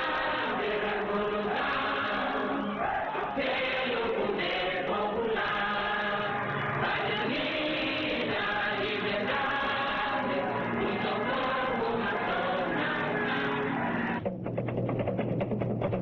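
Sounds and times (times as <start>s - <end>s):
group of voices chanting: 0.0s - 14.2s.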